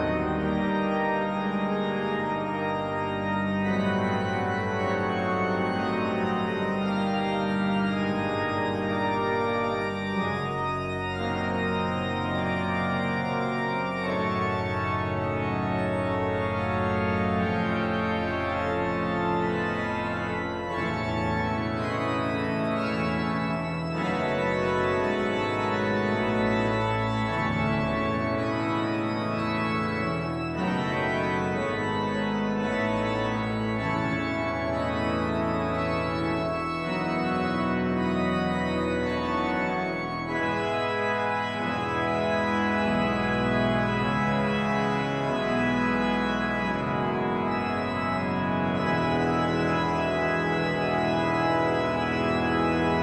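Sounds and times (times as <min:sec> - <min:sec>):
church organ playing chords: 0:00.0 - 0:53.0.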